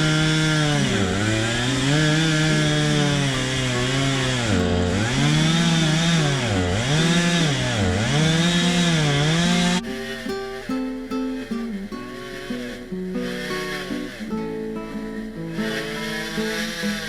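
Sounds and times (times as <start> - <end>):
acoustic guitar music: 0.0 - 17.0
chainsaw cutting trees: 0.0 - 17.0.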